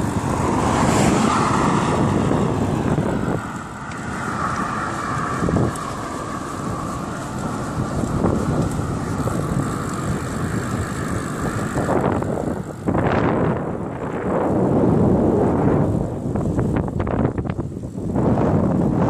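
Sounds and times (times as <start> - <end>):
tyres rolling on trail: 0.0 - 19.0
wind buffeting microphone: 0.0 - 19.0.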